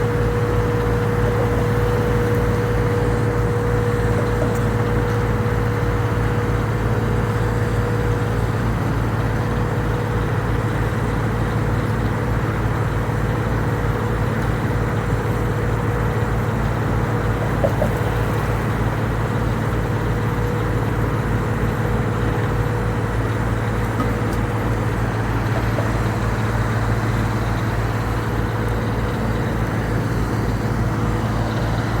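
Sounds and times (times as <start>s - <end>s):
engine throbbing steadily: 0.0s - 32.0s.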